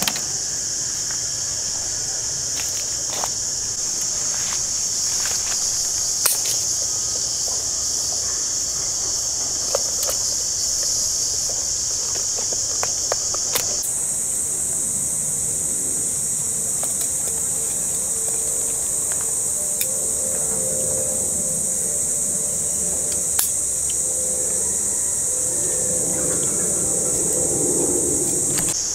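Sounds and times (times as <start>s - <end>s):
high-pitched insect chorus: 0.0s - 28.9s.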